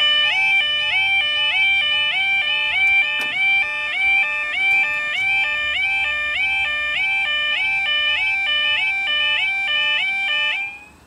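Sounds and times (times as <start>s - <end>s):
level crossing alarm warbling: 0.0s - 11.0s.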